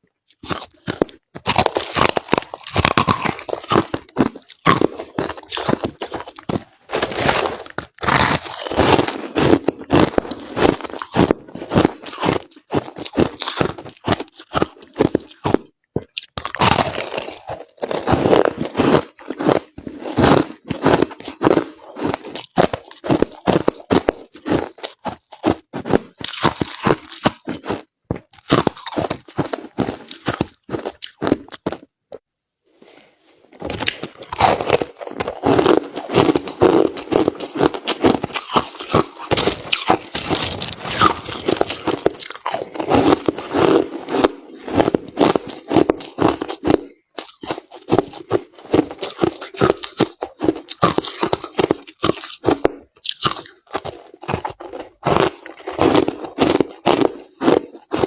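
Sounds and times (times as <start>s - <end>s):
crushed ice crunching: 0.4s - 31.8s, 33.6s - 58.0s.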